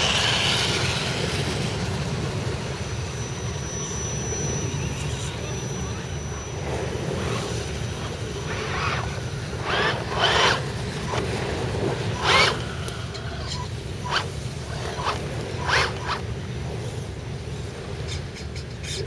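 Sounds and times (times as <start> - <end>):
low wind rumble on microphone: 0.0 - 19.0.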